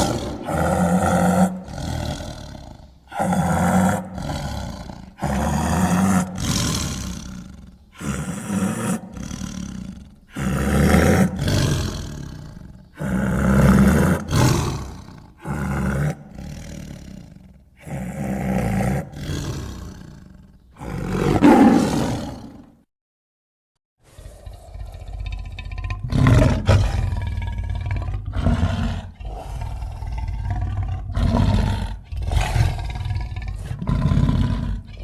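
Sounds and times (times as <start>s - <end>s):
deep harsh creature roars: 0.0s - 22.8s, 24.1s - 35.0s.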